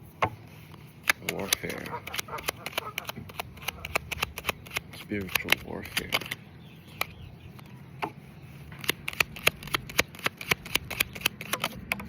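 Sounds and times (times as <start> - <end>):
cards shuffling and clicking: 0.2 - 12.0.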